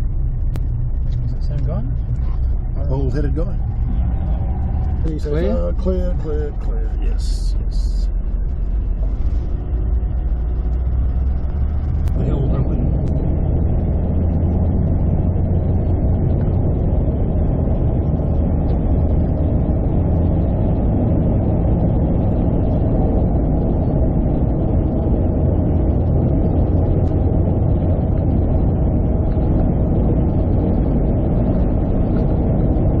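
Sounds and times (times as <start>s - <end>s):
car cabin road and engine rumble: 0.0s - 33.0s.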